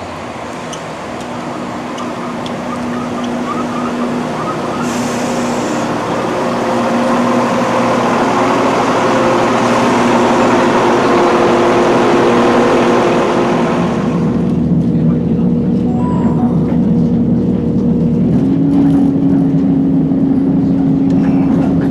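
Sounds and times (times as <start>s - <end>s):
diesel train engine running: 0.0s - 21.9s.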